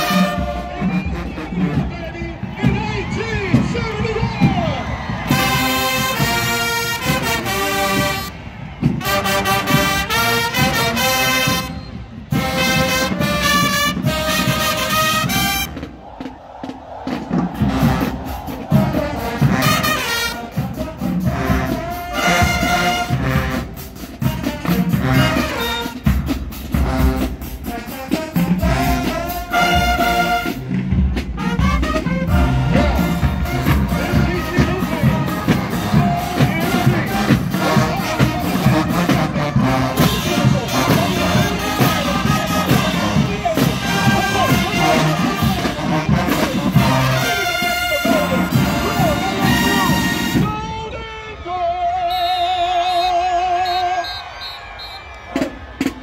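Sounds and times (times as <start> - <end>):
brass section playing: 0.0 - 4.3, 4.9 - 51.0, 51.9 - 55.8
pounding drums: 0.0 - 50.5.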